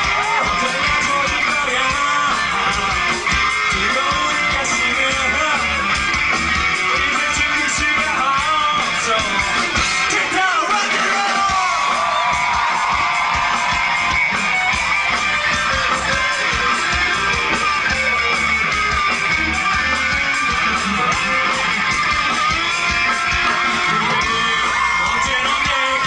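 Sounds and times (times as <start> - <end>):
live band guitar music: 0.0 - 26.0
steady drum beat: 0.0 - 26.0.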